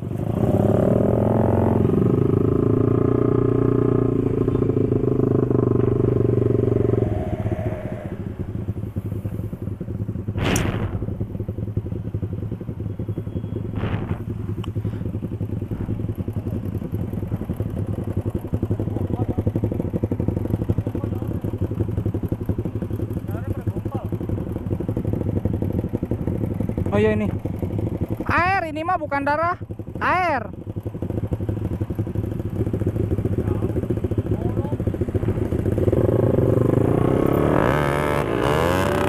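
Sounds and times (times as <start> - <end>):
small motorcycles revving: 0.0 - 39.0.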